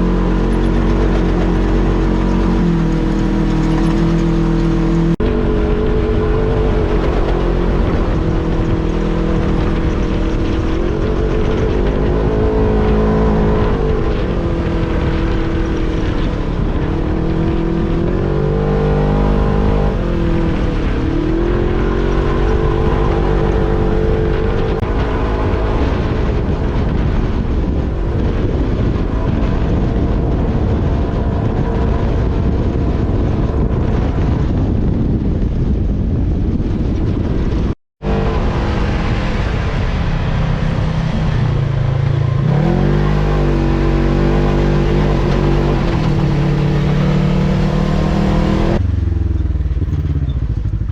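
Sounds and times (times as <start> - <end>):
off-road vehicle engine running: 0.0 - 50.9.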